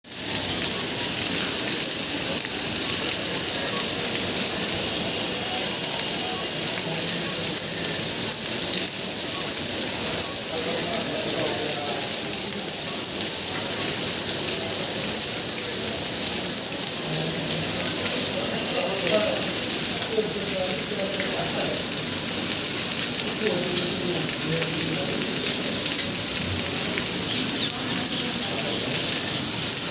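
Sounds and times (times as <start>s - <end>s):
heavy rain pattering: 0.0s - 29.9s.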